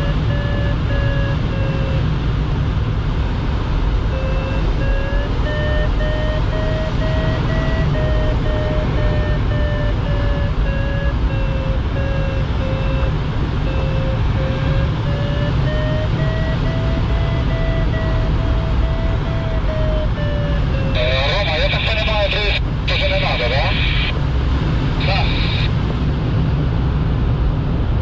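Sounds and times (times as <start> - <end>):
variometer beeping: 0.0 - 2.4, 4.0 - 24.2
cockpit airflow noise: 0.0 - 26.8.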